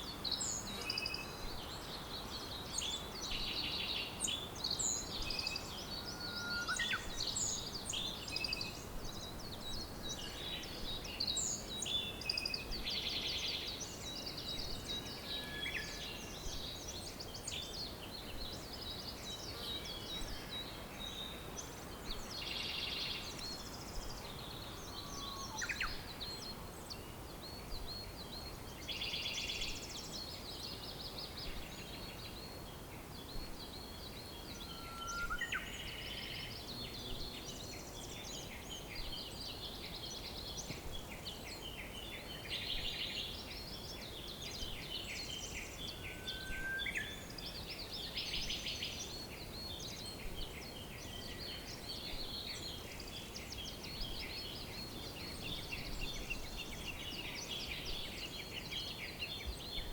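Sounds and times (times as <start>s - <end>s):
low steady background hiss: 0.0s - 59.9s
wild birds chirping and trilling: 0.0s - 59.9s.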